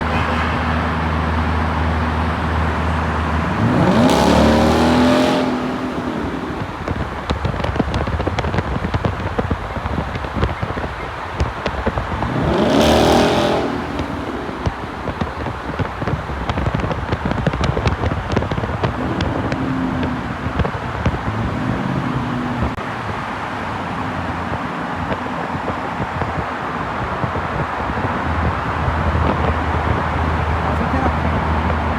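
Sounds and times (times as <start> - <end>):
car engine revving: 0.0 - 31.9
road noise: 0.0 - 31.9
wind noise: 0.0 - 31.9.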